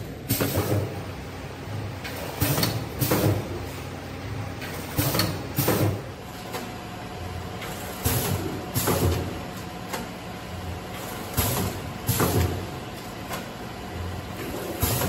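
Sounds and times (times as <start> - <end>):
packing machine hum: 0.0 - 15.0.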